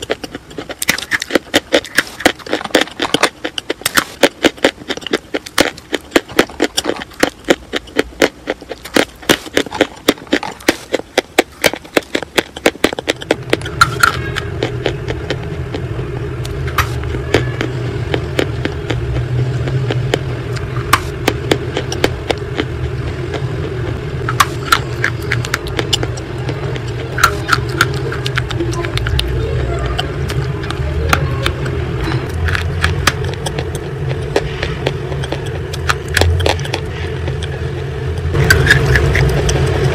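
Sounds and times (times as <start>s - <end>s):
chalk crunching when chewed: 0.0s - 39.9s
steady low rumble: 0.0s - 39.9s.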